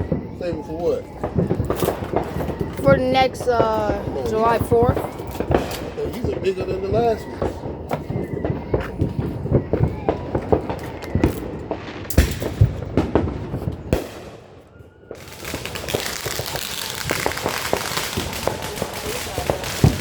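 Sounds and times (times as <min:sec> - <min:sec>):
fireworks hissing crackle: 0:00.0 - 0:20.0
fireworks pops and bangs: 0:00.0 - 0:20.0.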